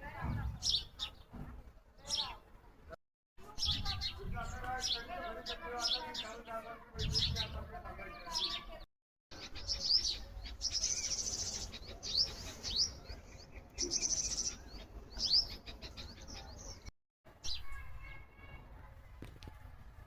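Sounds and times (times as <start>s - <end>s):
songbirds chirping: 0.0s - 18.6s.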